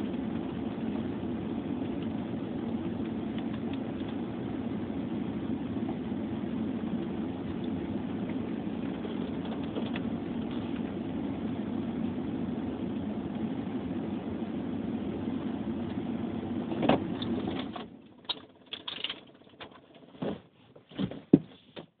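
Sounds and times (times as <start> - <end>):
low drone in car cabin: 0.0 - 20.3.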